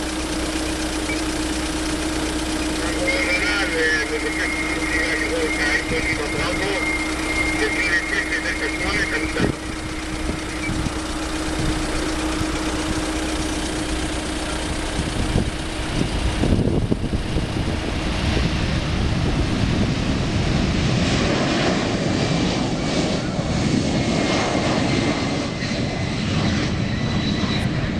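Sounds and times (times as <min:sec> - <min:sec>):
jet engines at takeoff: 0:00.0 - 0:27.9.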